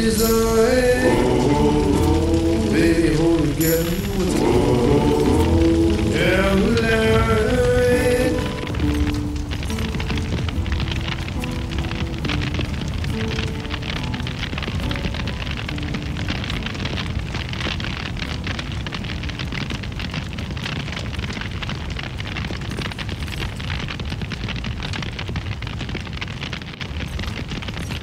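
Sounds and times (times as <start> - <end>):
large fire crackling: 0.0 - 28.0.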